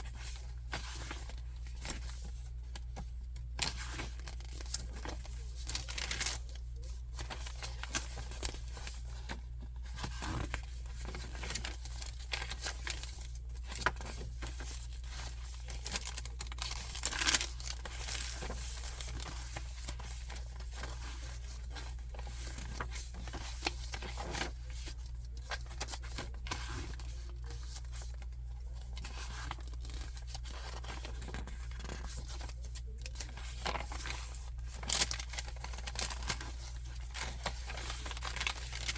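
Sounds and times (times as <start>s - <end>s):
paper pages rustling: 0.0s - 38.9s.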